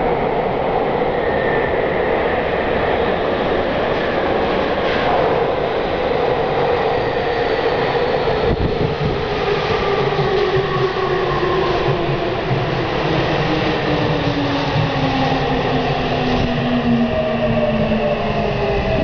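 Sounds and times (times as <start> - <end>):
train wheels rumbling on rail: 1.2 - 19.0.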